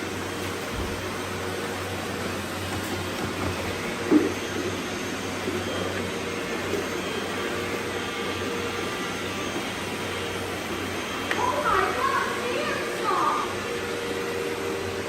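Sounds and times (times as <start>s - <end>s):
robot vacuums whirring: 0.0s - 15.0s.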